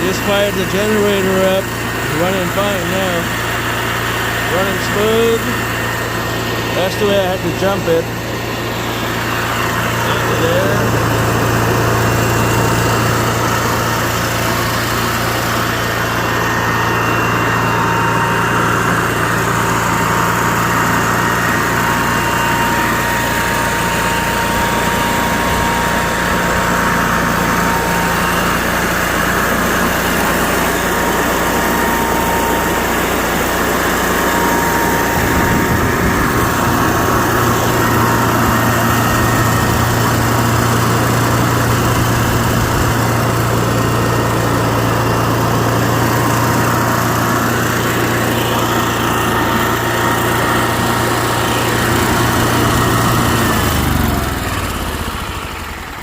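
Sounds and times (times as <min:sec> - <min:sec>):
generator engine running: 0:00.0 - 0:56.0.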